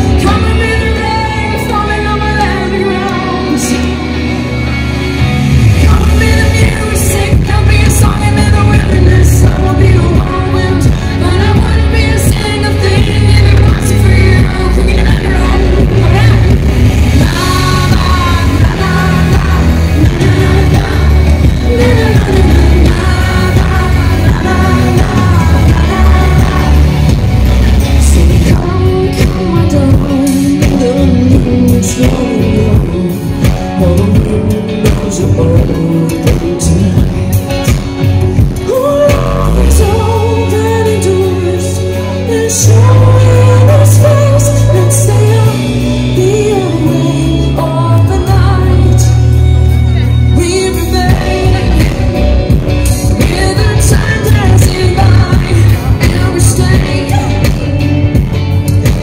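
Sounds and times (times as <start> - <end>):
woman singing: 0.0 - 4.4, 5.5 - 59.0
deep bass line: 0.0 - 59.0
live pop band: 0.0 - 59.0.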